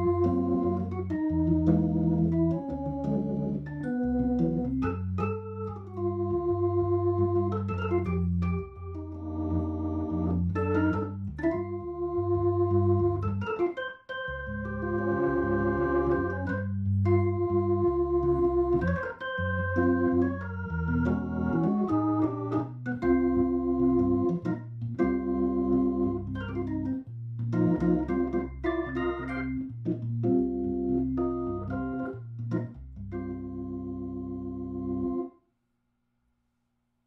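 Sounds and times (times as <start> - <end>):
low bass line: 0.0 - 13.6, 14.3 - 35.2
organ playing jazz chords: 0.0 - 35.3.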